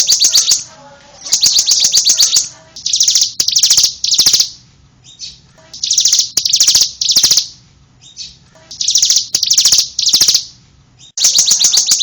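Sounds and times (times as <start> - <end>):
bird singing high rapid trills: 0.0 - 12.0.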